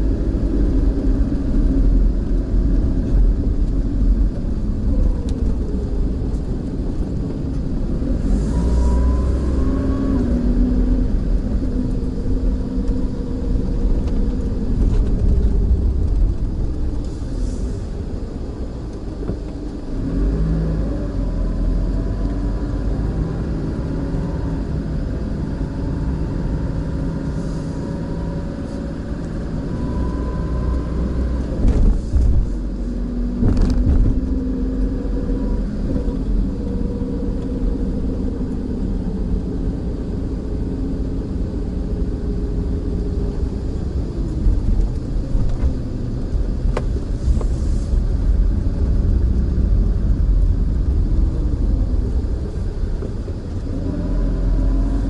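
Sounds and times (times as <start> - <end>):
car engine driving slowly: 0.0 - 55.0.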